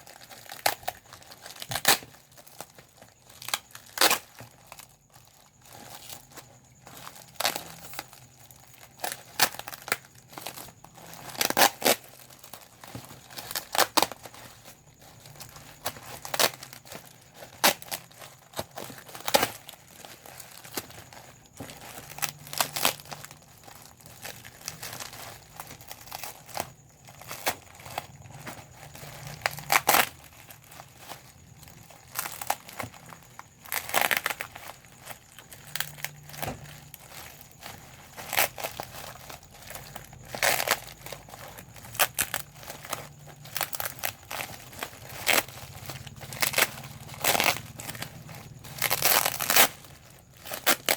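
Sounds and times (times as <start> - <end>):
bubble wrap popping: 0.0 - 50.9
plastic sheet crinkling: 0.0 - 50.9.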